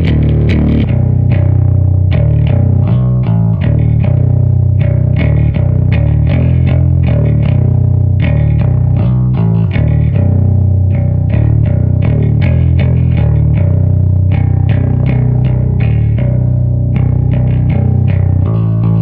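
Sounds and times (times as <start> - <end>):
distorted electric bass riff: 0.0 - 19.0.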